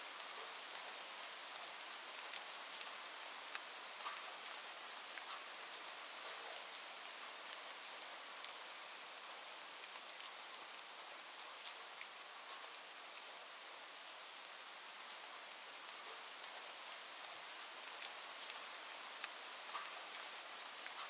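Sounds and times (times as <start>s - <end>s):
steady rain with sharp ticks: 0.0s - 21.0s.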